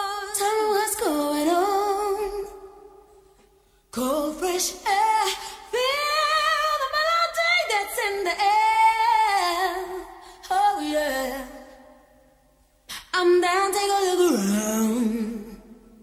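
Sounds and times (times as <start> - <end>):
woman singing with vibrato: 0.0 - 3.0, 4.0 - 12.2, 12.9 - 16.0.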